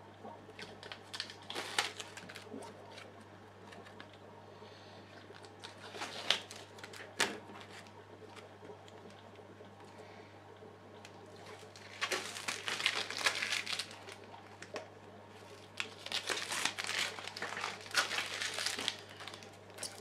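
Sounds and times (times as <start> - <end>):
protective film peeled and crinkling: 0.6 - 4.2, 5.3 - 9.2, 11.0 - 20.0.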